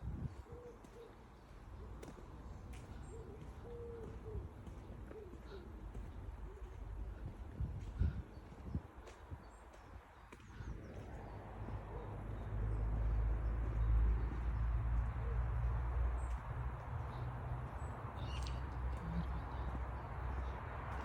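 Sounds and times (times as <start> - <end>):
birds chirping: 0.4 - 21.0.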